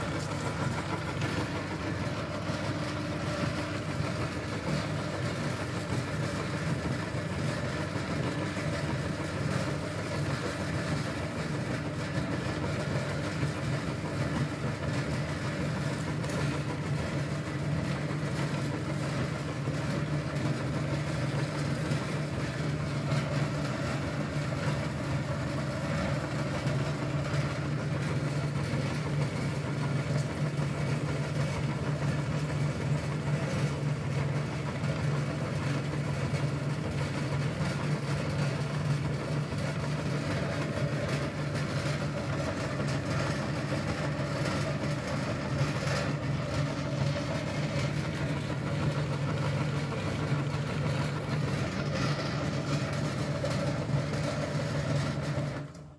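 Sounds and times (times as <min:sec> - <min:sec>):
electric meat grinder running: 0:00.0 - 0:55.9.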